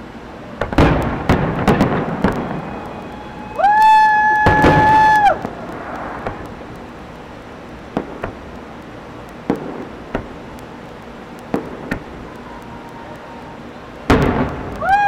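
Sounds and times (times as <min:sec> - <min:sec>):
steady background hiss: 0:00.0 - 0:15.0
fireworks bangs: 0:00.5 - 0:15.0.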